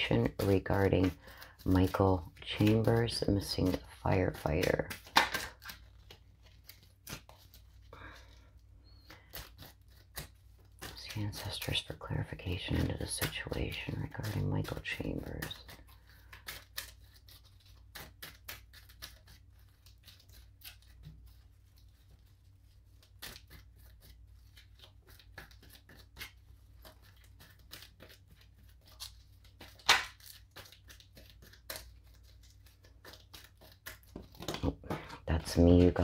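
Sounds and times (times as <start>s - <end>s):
cards being shuffled: 0.0s - 36.0s.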